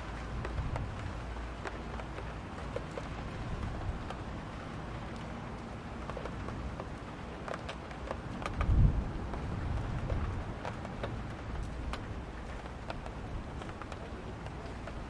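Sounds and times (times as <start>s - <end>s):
drops ticking on hard surface: 0.0s - 15.0s
steady rain: 0.0s - 15.0s.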